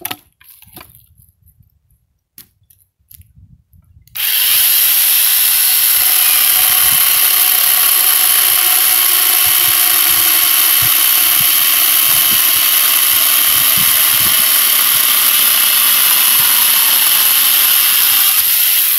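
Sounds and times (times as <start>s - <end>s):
chainsaw attachment cutting log: 0.0s - 0.9s, 4.1s - 18.9s.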